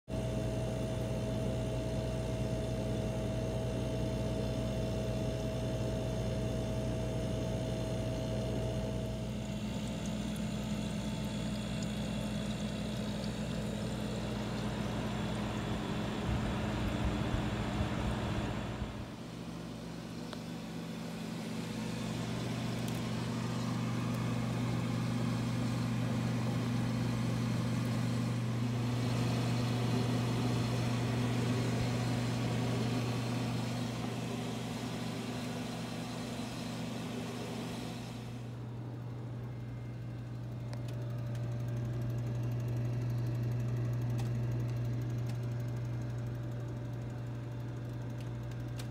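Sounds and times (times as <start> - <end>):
condenser fan whir: 0.1 - 48.9
refrigerator compressor hum: 0.1 - 48.9.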